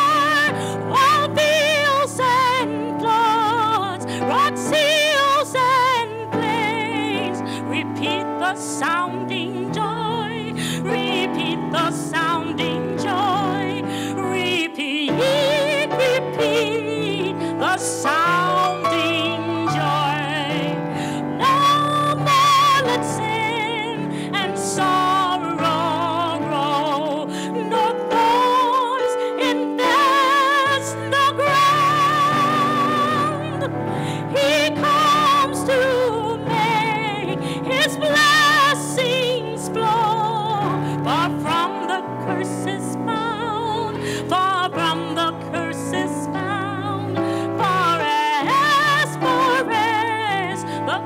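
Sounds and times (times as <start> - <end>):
keyboard accompaniment: 0.0 - 51.0
woman singing a hymn: 0.0 - 51.0.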